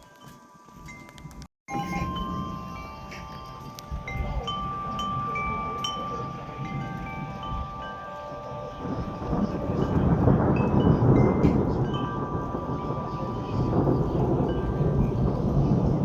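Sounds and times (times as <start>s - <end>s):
wind chimes ringing: 0.0s - 16.0s
wind rumbling on microphone: 0.8s - 16.0s.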